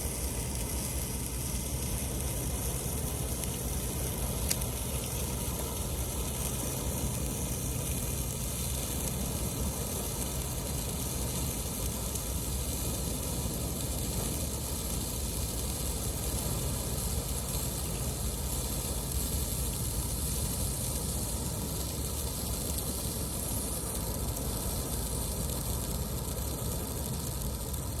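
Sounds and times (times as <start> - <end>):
firework hissing: 0.0 - 28.0.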